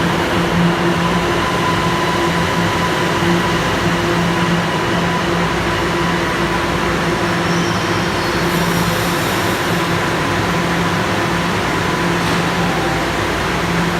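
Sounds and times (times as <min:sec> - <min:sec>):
subway train running: 0:00.0 - 0:13.9.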